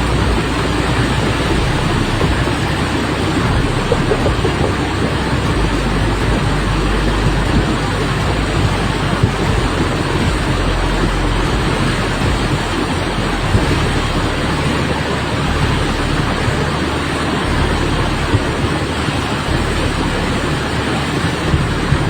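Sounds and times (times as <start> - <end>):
heavy rain pouring: 0.0 - 22.0
low rumbling noise: 0.0 - 22.0.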